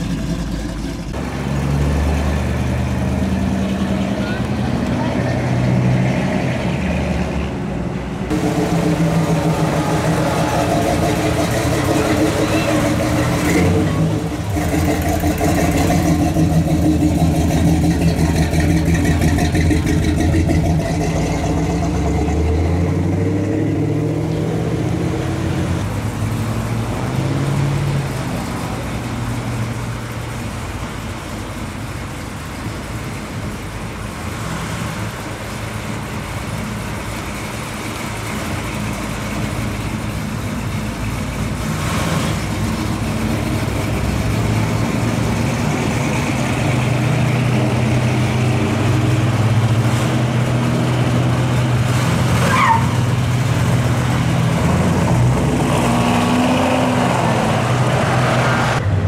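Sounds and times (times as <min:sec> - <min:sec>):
car engines rolling past: 0:00.0 - 0:59.0.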